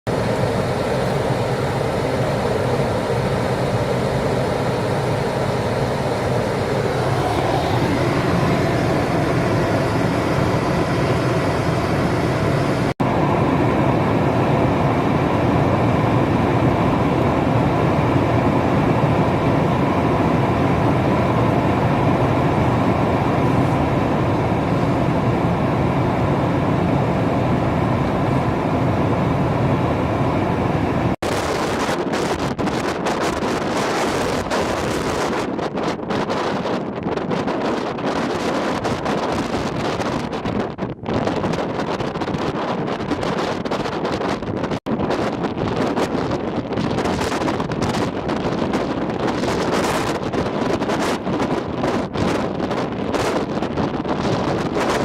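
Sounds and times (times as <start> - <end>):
vehicle road and engine noise: 0.1 - 55.0.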